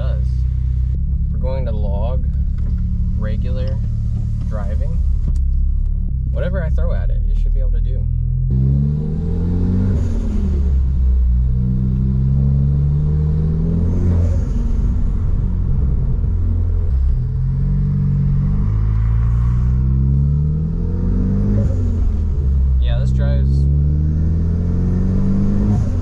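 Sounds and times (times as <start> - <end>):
turbocharged car engine accelerating: 0.0 - 26.0.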